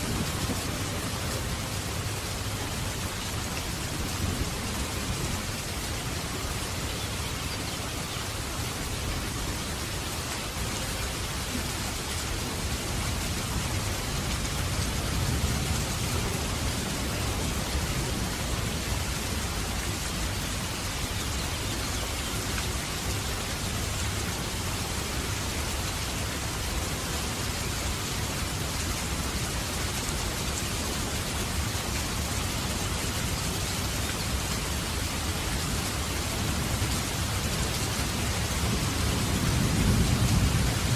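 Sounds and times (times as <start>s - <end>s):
heavy rain rushing hiss: 0.0s - 40.9s.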